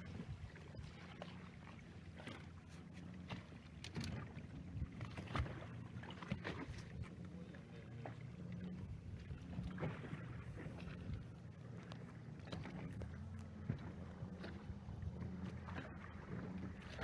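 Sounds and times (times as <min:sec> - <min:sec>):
boat engine running: 0:00.0 - 0:17.0
water splashing against hull: 0:00.0 - 0:17.0.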